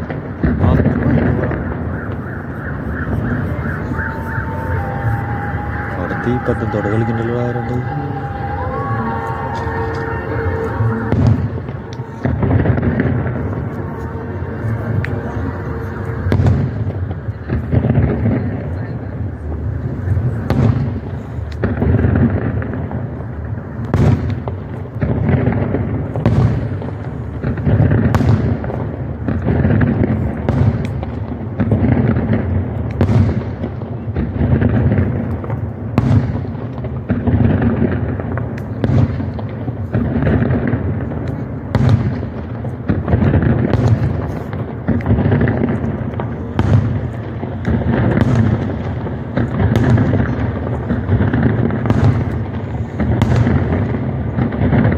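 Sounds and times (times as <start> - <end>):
fireworks blasts rumbling: 0.0 - 54.9
sharp firework cracks: 0.0 - 54.9.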